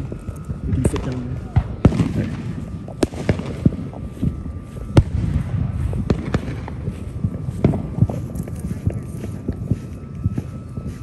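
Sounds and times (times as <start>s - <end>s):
fireworks bangs: 0.0s - 10.9s.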